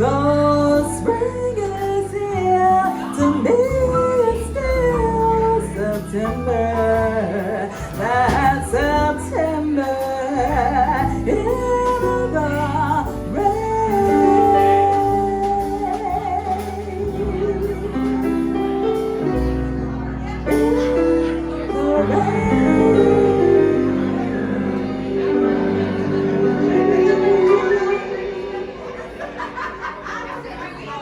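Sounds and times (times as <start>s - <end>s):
woman singing: 0.0s - 18.6s, 20.2s - 28.9s
small jazz band playing: 0.0s - 31.0s.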